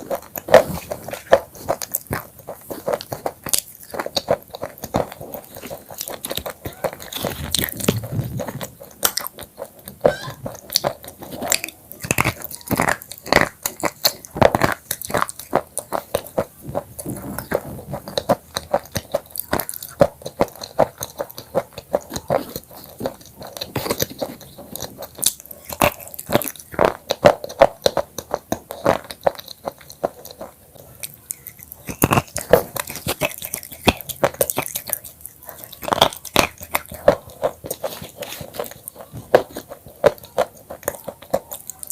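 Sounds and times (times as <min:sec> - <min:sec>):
chips crunching: 0:00.0 - 0:41.9.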